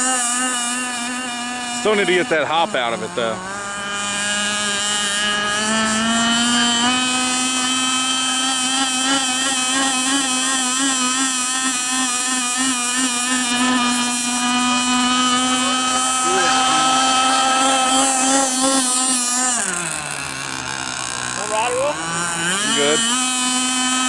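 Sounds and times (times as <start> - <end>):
two-stroke engine whine: 0.0 - 24.0.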